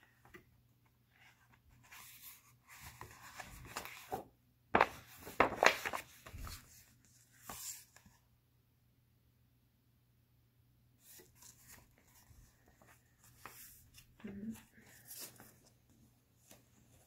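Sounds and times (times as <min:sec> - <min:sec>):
book pages turning: 0:00.0 - 0:08.2, 0:11.0 - 0:17.0.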